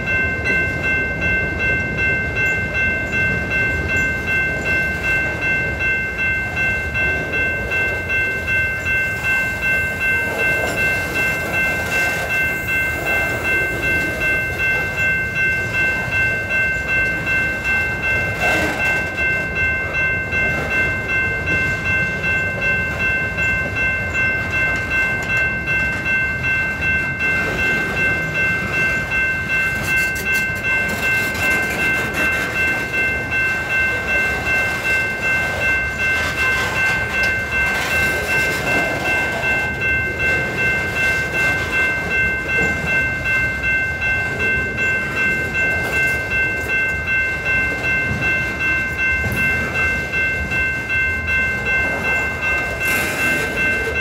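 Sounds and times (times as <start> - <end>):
high-pitched ringing: 0.0 - 54.0
steel wheels rolling on rails: 0.0 - 54.0.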